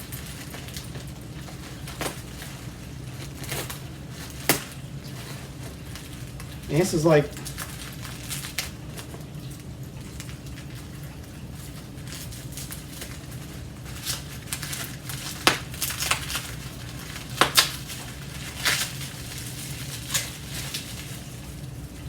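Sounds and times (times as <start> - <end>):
packing material rustling: 0.0 - 22.0
sharp crackles: 0.0 - 22.0
steady low hum: 0.0 - 22.0.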